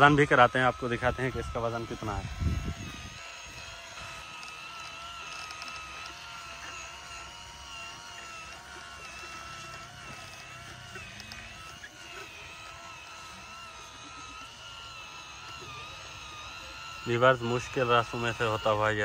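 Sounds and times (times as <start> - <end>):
small electric motor whining: 0.0 - 19.0.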